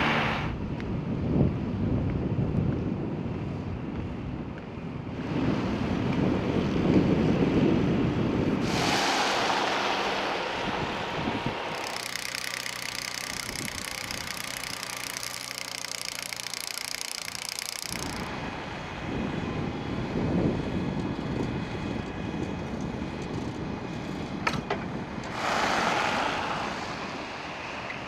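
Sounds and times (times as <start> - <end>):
wind buffeting microphone: 0.5 - 28.0
truck engines running: 5.1 - 28.0.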